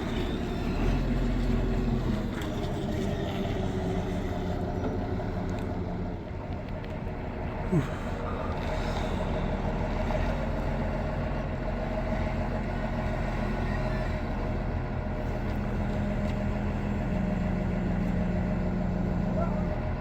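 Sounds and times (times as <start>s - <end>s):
heavy machinery engine humming: 0.0s - 20.0s.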